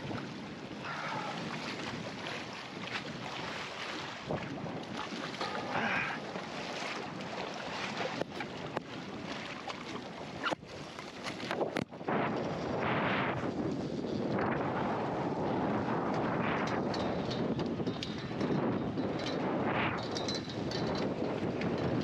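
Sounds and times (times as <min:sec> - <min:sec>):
choppy seawater: 0:00.0 - 0:22.0
wind buffeting microphone: 0:00.0 - 0:22.0.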